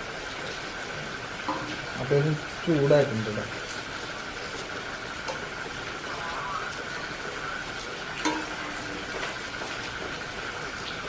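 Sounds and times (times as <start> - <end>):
fish sizzling over fire: 0.0 - 11.0.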